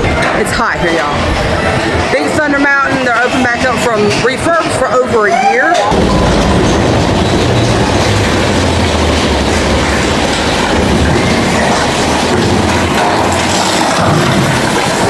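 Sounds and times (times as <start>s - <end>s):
roller coaster cars rumbling on track: 0.0s - 15.0s.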